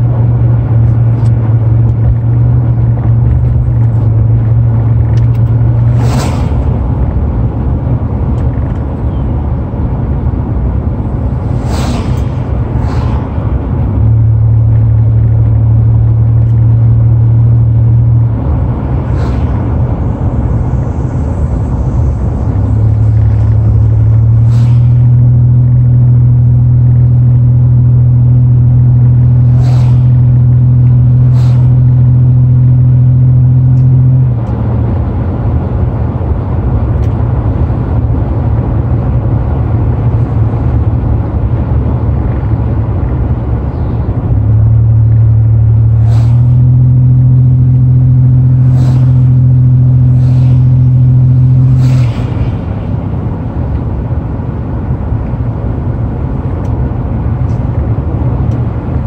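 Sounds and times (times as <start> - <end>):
car engine drone: 0.0 - 59.0
road noise: 0.0 - 59.0.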